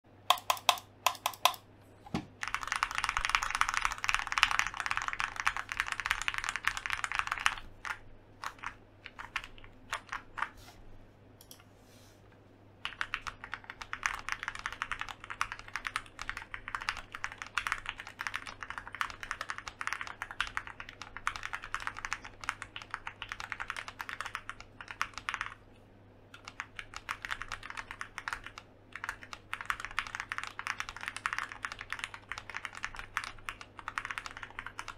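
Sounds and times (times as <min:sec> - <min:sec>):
mechanical keyboard typing: 0:00.3 - 0:01.6, 0:02.4 - 0:10.6, 0:12.8 - 0:25.6, 0:26.4 - 0:34.9.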